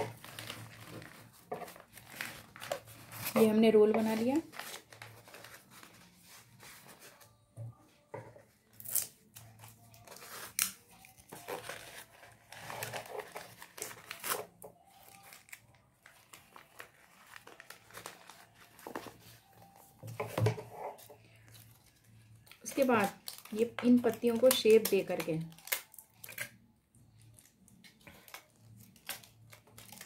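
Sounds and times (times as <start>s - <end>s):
paper crinkling: 0.0s - 7.4s, 8.7s - 30.0s.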